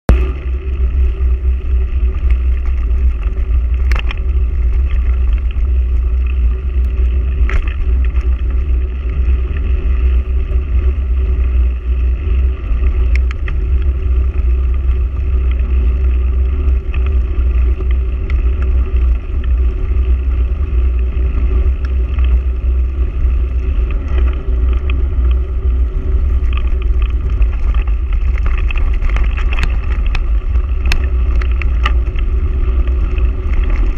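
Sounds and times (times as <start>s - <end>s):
steady low rumble: 0.0s - 33.9s
wind buffeting microphone: 0.1s - 33.9s.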